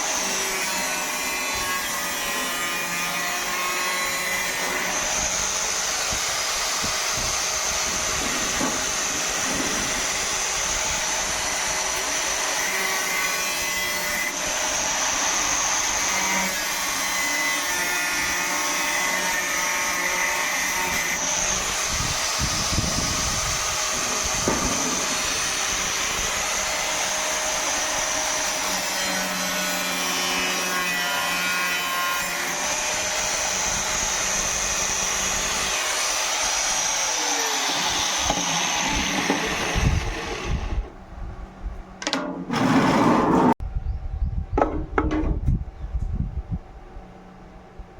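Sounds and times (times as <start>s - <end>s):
small power tool whining: 0.0s - 40.9s.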